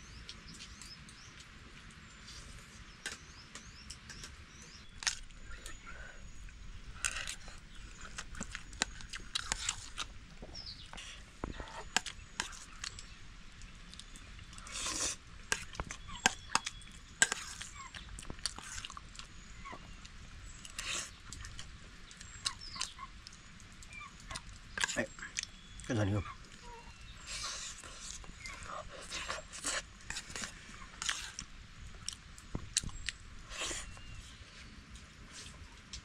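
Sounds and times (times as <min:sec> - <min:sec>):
chewing and crunching: 0:00.2 - 0:36.0.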